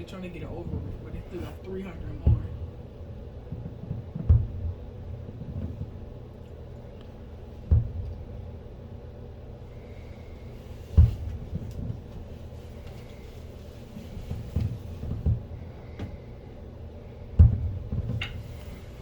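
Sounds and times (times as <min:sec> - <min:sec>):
fireworks booming: 0:00.0 - 0:19.0.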